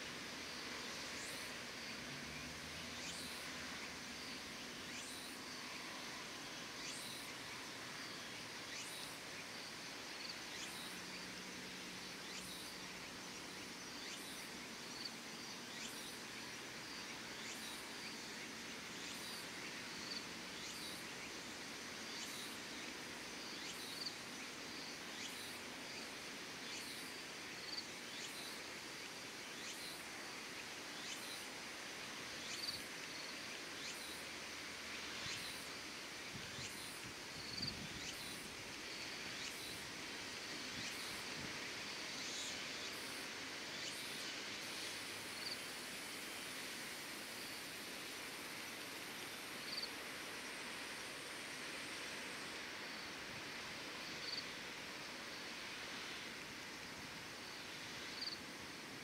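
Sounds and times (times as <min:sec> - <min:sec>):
steady hiss: 0:00.0 - 0:59.0
insect chirping: 0:00.2 - 0:59.0.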